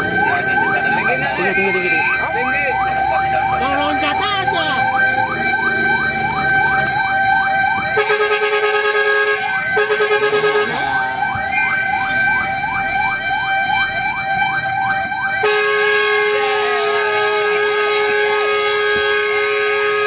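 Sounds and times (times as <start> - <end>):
fire truck siren yelping: 0.0 - 20.0
horn blaring: 0.0 - 20.0.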